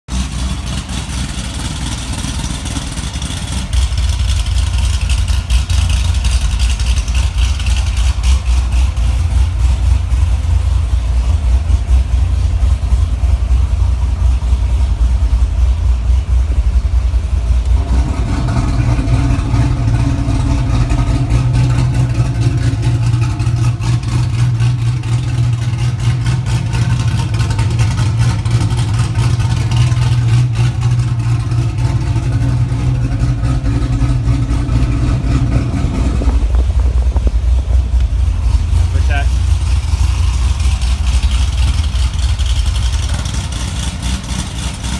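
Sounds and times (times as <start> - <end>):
car engine running: 0.1 - 44.9.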